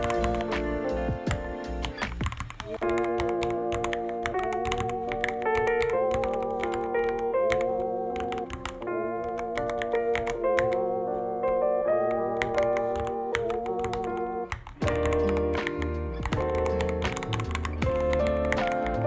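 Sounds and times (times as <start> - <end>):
music with long wavering notes: 0.0 - 19.0.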